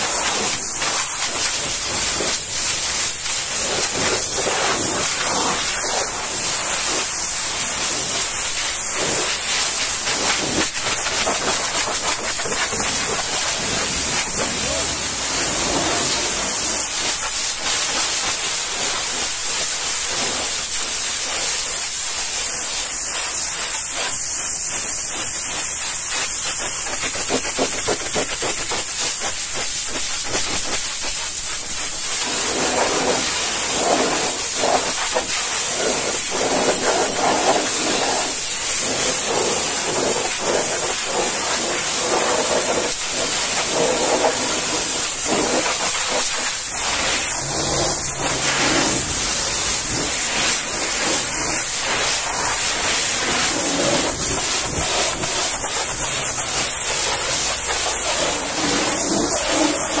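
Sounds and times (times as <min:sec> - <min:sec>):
pressure washer hissing: 0:00.0 - 1:00.0
water spattering: 0:00.0 - 1:00.0.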